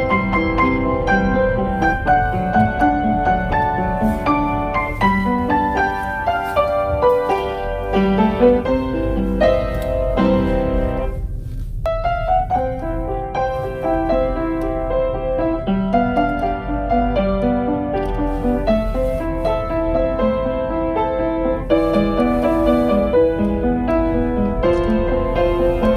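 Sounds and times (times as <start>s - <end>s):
solo piano melody: 0.0s - 25.9s.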